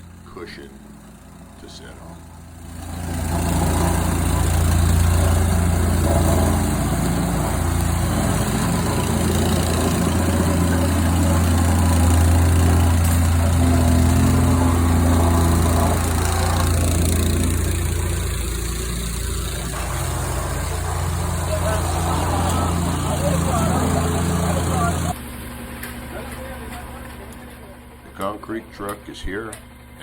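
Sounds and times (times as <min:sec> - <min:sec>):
plate compactor engine droning: 0:00.0 - 0:30.0.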